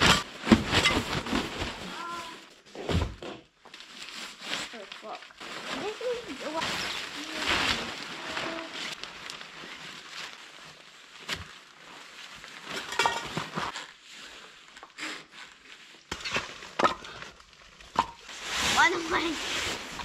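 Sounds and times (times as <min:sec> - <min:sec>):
tarp rustling: 0:00.0 - 0:16.8, 0:17.4 - 0:20.0.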